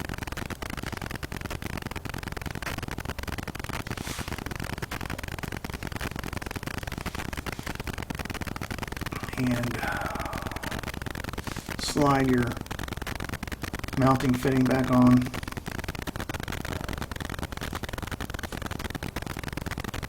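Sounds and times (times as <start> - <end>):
static hiss with crackle: 0.0 - 20.0.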